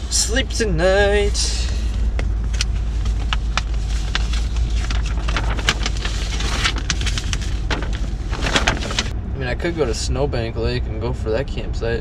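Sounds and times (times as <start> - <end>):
car cabin rumble: 0.0 - 10.6.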